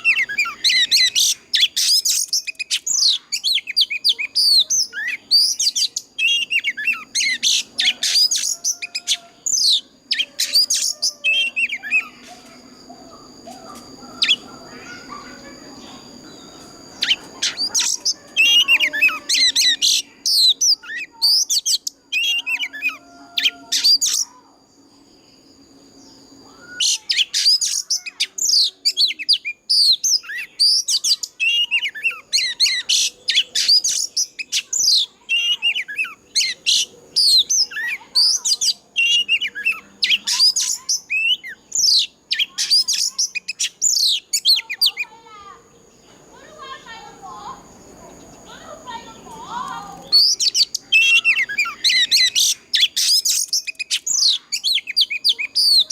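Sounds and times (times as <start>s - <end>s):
bird singing whistles and chirps: 0.0s - 45.2s, 49.5s - 55.9s.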